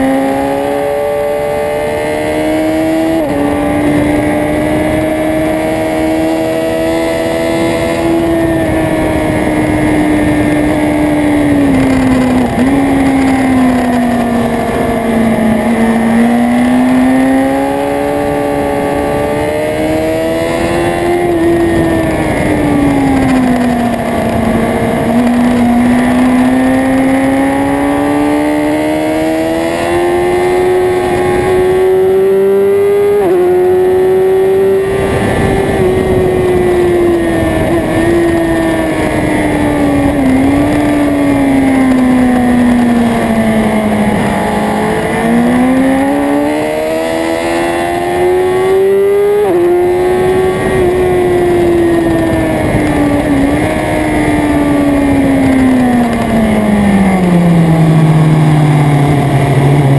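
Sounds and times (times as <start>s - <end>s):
motorcycle engine accelerating: 0.0s - 59.9s
wind and road rush: 0.0s - 59.9s.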